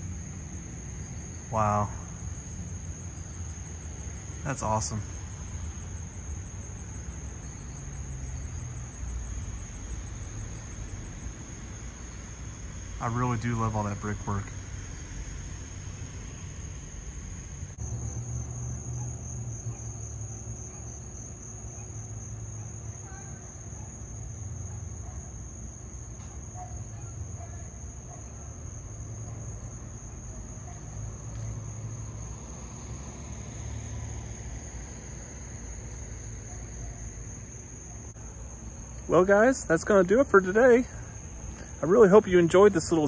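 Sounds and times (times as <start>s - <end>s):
insects chirring: 0.0s - 43.0s.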